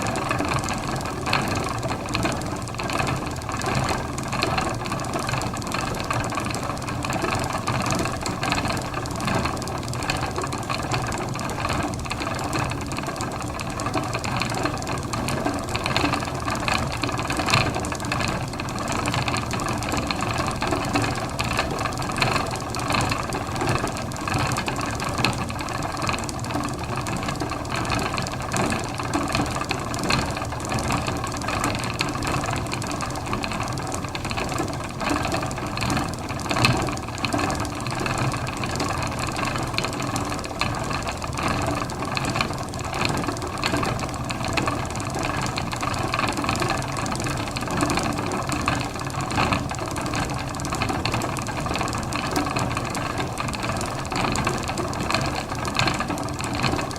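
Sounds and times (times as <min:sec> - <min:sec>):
spinning wheel rattling and whirring: 0:00.0 - 0:56.9.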